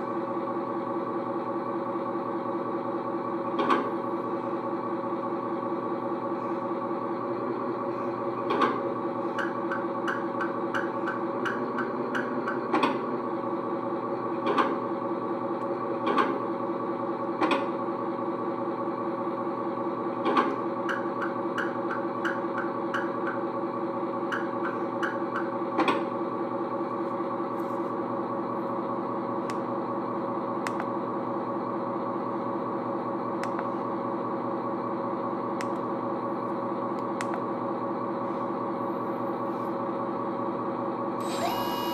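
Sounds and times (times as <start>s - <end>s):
toy truck mechanical hum: 0.0s - 41.9s.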